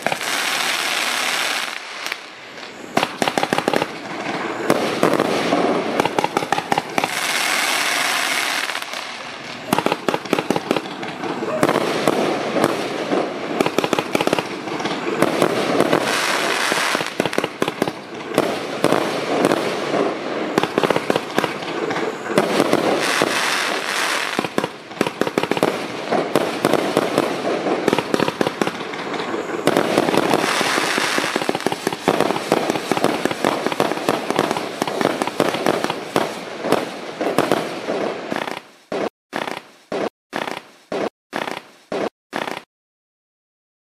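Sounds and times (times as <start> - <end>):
fireworks launching and bursting: 0.0 - 42.7.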